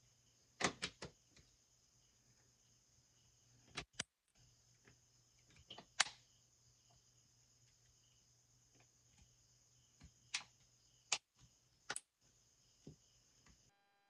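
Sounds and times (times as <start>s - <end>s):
faint hum with high tones: 1.6s - 14.0s.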